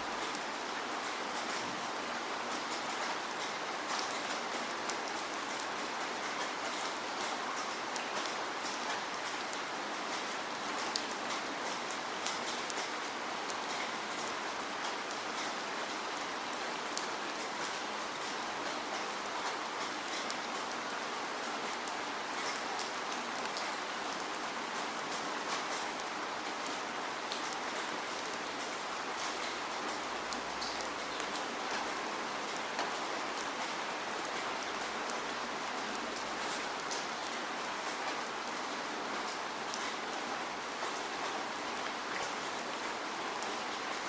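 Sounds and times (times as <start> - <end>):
raindrops ticking on a surface: 0.0 - 44.0
steady rainfall: 0.0 - 44.0.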